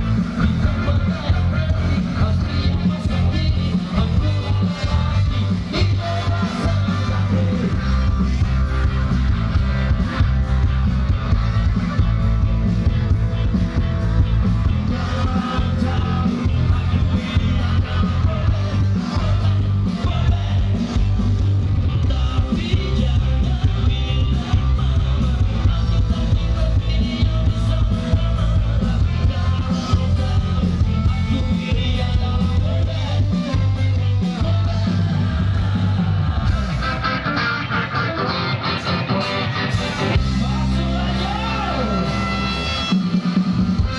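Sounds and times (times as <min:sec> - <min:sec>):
person singing: 0:00.0 - 0:08.5, 0:14.8 - 0:42.8
drums: 0:00.0 - 0:43.9
electric guitar: 0:00.0 - 0:43.9
heavy bass: 0:00.0 - 0:43.9.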